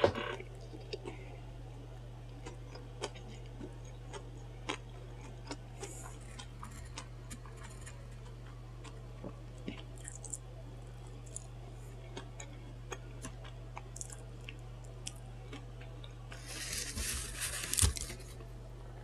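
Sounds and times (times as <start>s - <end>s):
steady low hum: 0.0s - 19.0s
chewing soft sandwich: 0.3s - 1.3s, 2.1s - 18.5s.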